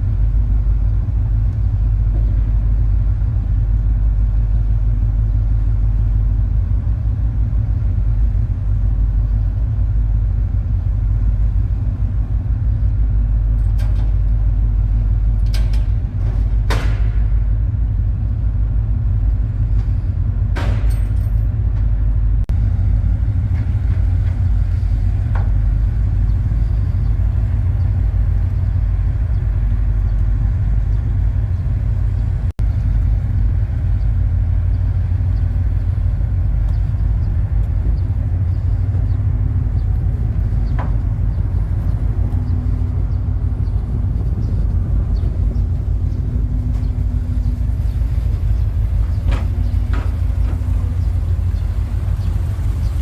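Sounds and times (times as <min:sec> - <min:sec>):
boat engine rumble: 0:00.0 - 0:53.0.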